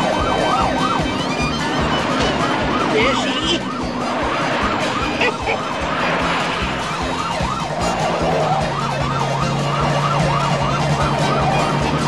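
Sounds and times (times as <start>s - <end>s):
police siren yelp: 0.0s - 12.0s.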